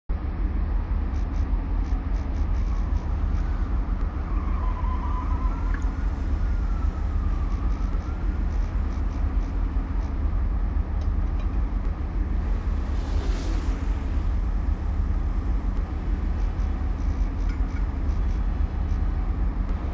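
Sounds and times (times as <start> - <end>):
traffic rumble: 0.1 - 19.9.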